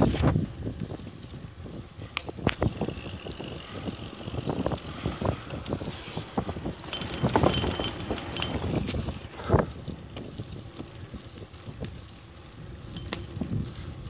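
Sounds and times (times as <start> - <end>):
bicycle tyres rolling on asphalt: 0.0 - 14.0
bike rattling: 0.0 - 14.0
wind buffeting microphone: 0.0 - 14.0.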